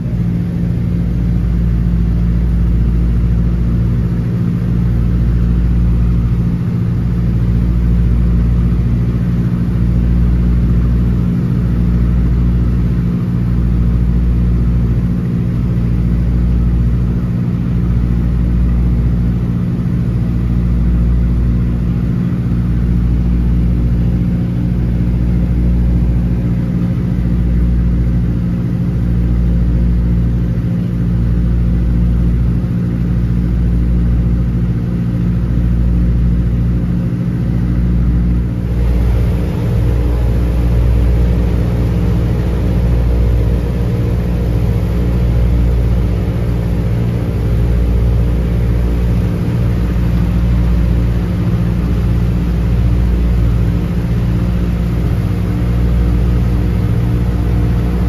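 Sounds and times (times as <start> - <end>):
radial aircraft engines droning: 0.0 - 58.0.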